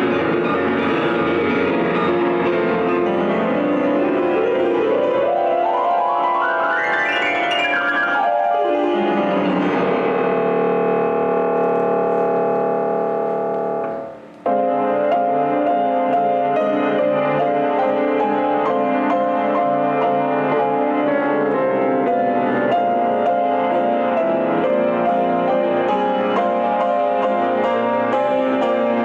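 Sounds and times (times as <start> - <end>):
grand piano with orchestra: 0.0 - 29.0.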